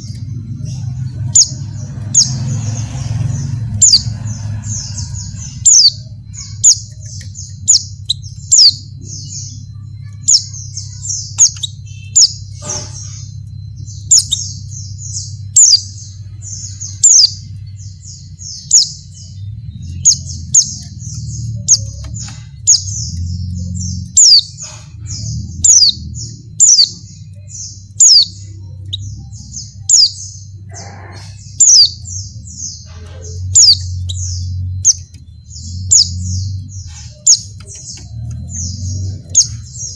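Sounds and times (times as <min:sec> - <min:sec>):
bird high chirps: 0:00.0 - 0:39.9
steady low hum: 0:00.0 - 0:39.9.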